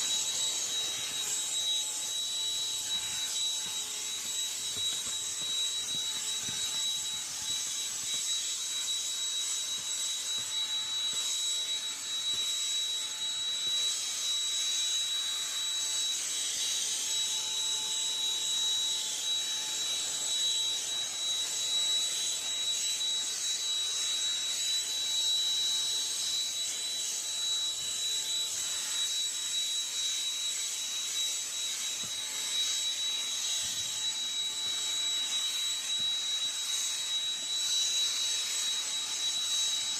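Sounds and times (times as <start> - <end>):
handheld vacuum running: 0.0 - 39.9.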